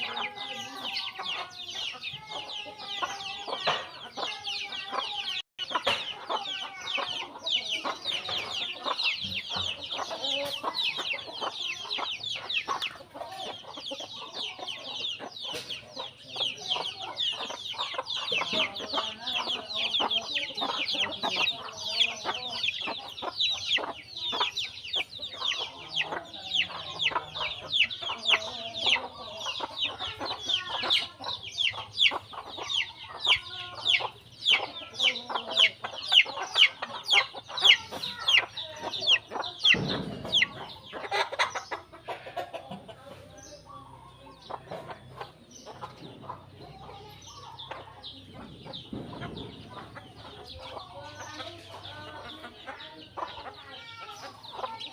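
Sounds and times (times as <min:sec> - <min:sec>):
chickens clucking: 0:00.0 - 0:54.9
sparrows chirping: 0:00.0 - 0:54.9.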